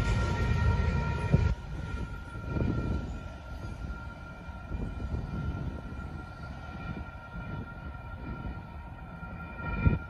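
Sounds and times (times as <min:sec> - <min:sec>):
railroad crossing bell ringing: 0:00.0 - 0:10.0.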